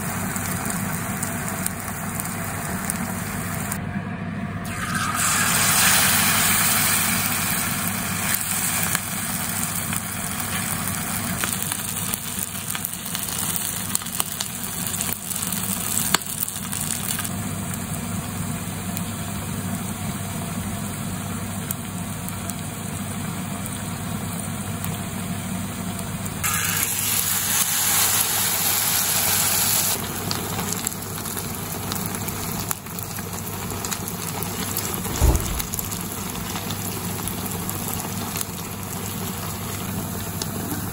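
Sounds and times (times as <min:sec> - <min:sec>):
food deep-frying in sizzling oil: 0:00.0 - 0:03.8, 0:04.6 - 0:40.9.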